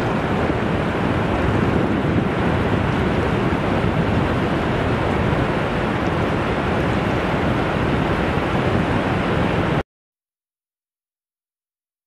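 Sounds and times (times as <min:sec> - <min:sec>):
ocean surf on a beach: 0:00.0 - 0:09.8.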